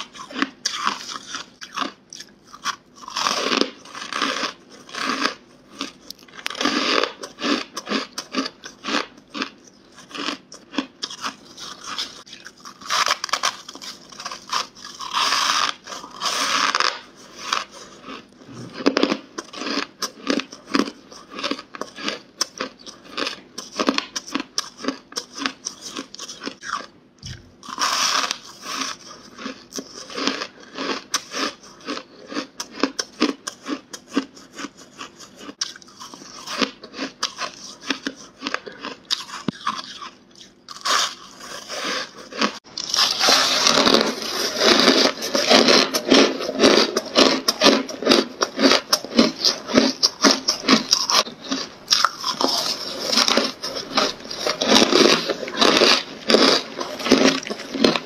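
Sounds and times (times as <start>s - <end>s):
crunching ice being chewed: 0.0s - 58.0s.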